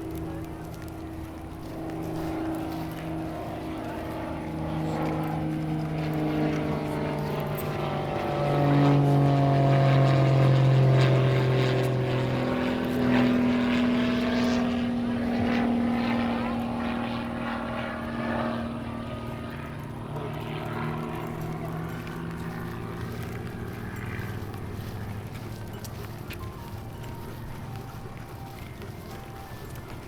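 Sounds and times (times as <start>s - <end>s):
engine drone passing by: 0.0s - 30.0s.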